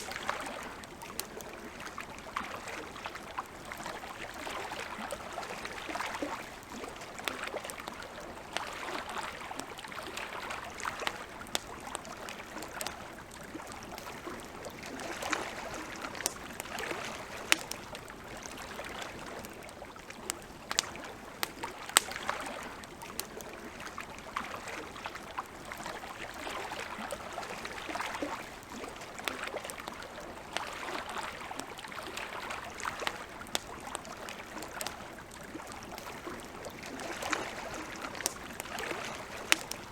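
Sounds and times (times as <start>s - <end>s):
campfire crackling and popping: 0.0s - 30.8s, 31.4s - 39.9s
lake water lapping: 0.0s - 39.9s.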